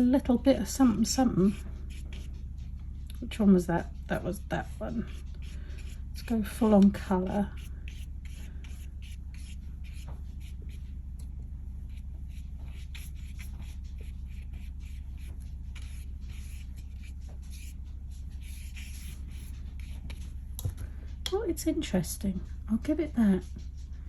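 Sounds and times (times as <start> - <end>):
steady low hum: 0.0 - 24.0
paintbrush scratching on paper: 0.2 - 11.0, 11.8 - 20.4.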